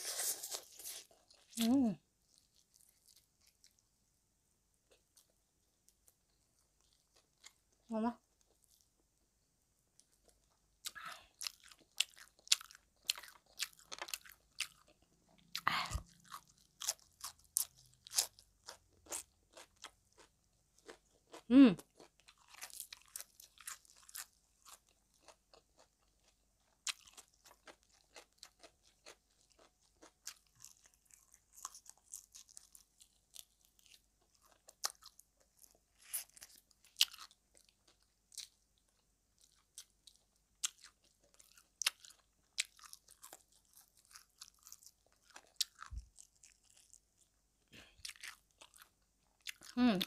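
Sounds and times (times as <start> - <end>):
chewing and crunching food: 0.0 - 4.0, 4.9 - 9.1, 9.9 - 50.0.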